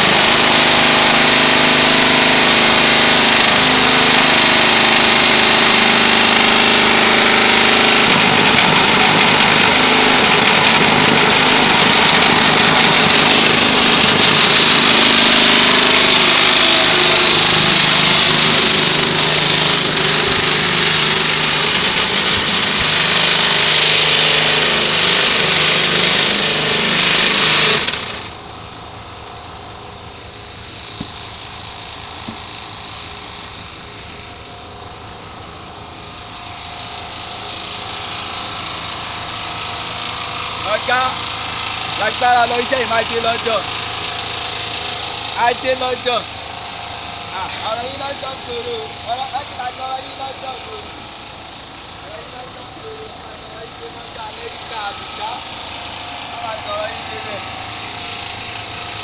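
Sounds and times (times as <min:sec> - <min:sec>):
vibrating table motor: 0:00.0 - 0:59.0.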